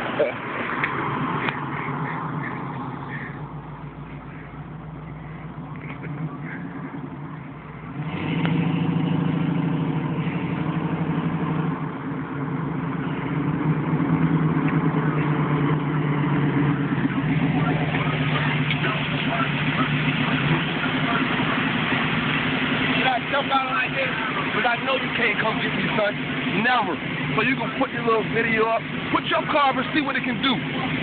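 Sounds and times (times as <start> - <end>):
car engine pulsing exhaust: 0.0 - 31.0.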